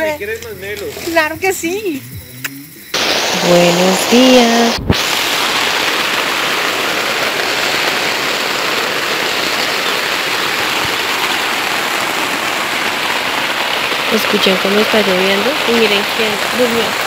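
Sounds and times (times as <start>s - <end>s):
rain falling on a tent: 3.0s - 17.0s.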